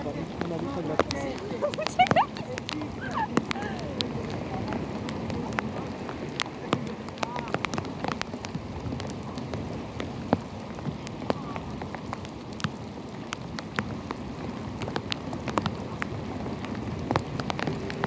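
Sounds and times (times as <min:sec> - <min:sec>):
rain falling on water: 0:00.0 - 0:18.0.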